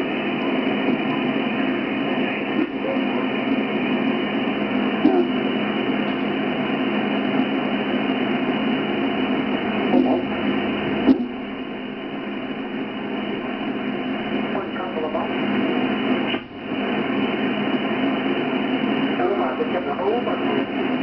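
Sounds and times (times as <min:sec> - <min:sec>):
radio hiss and static: 0:00.0 - 0:21.0
sharp static crackles: 0:00.0 - 0:21.0
weak radio signal: 0:00.0 - 0:21.0.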